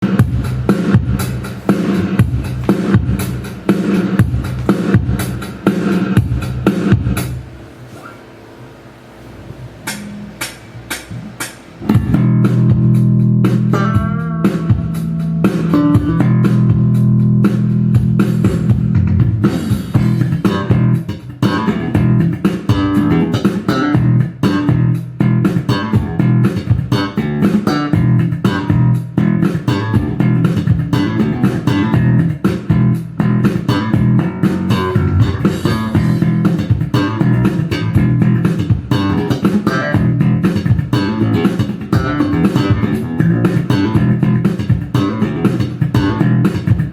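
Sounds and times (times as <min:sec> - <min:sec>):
electric bass playing: 0:00.0 - 0:07.6, 0:09.4 - 0:46.9.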